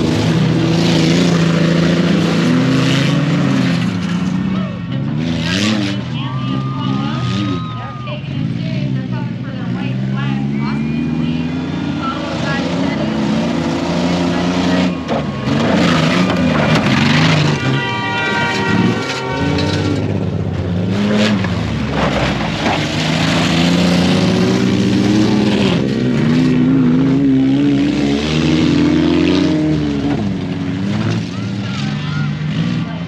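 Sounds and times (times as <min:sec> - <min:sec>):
truck engine revving hard: 0:00.0 - 0:33.0.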